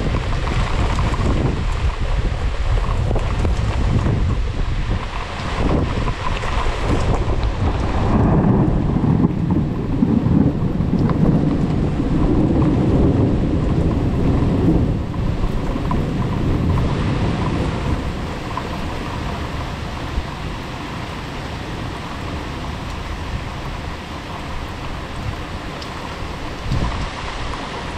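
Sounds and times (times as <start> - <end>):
heavy rain: 0.0 - 27.9
thunder rumbling: 0.0 - 27.9.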